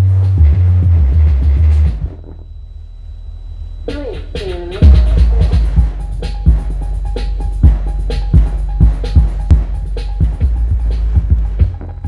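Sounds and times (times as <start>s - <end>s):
bass-heavy electronic music: 0.0s - 12.0s.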